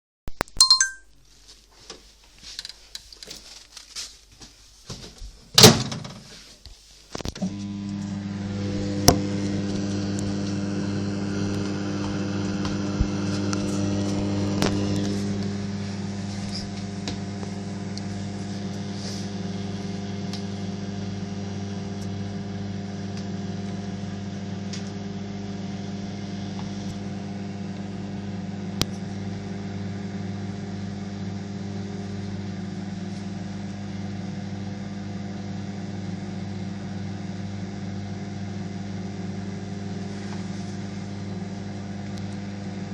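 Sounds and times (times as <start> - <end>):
microwave oven humming: 7.3 - 42.9.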